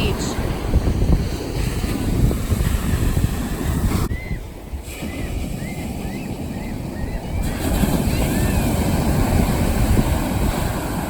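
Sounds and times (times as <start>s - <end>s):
heavy surf breaking: 0.0s - 11.0s
wind buffeting microphone: 0.0s - 11.0s.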